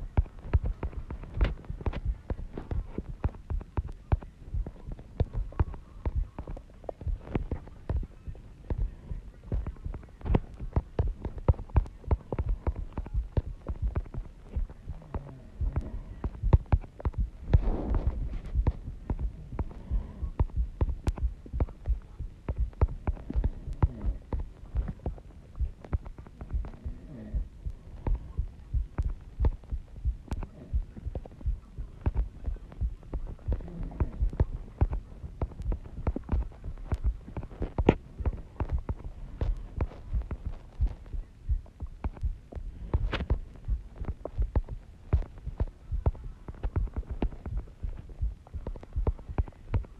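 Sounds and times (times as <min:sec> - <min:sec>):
fingers tapping on touchscreen: 0:00.0 - 0:49.9.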